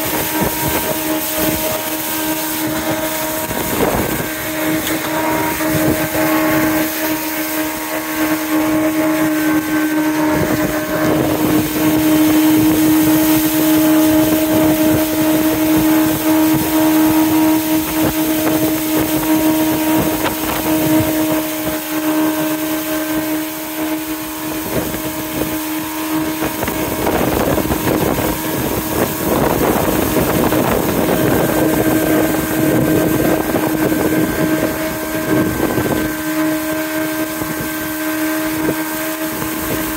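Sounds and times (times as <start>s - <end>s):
jet boat engine droning: 0.0s - 39.9s
rush of water noise: 0.0s - 39.9s.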